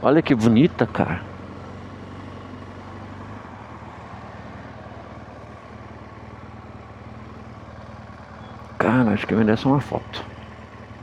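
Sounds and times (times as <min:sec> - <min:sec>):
motorcycle engine running low revs: 0:00.0 - 0:11.0.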